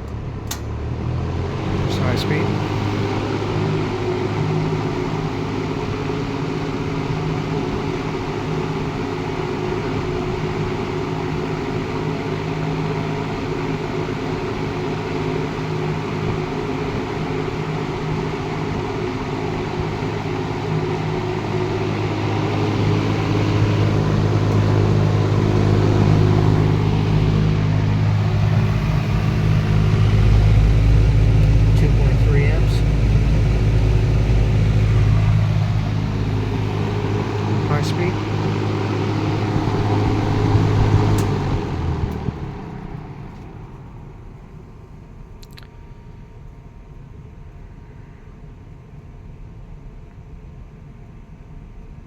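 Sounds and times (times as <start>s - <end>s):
box fan running: 0.0s - 52.0s.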